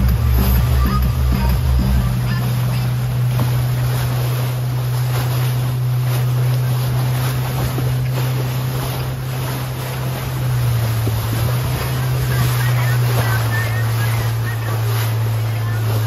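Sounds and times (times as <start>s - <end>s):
motorboat engine drone: 0.0s - 16.0s
water rushing along hull: 0.0s - 16.0s.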